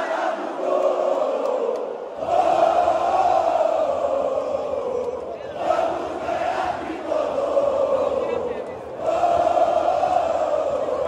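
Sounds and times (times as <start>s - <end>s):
football crowd chanting: 0.0s - 11.0s.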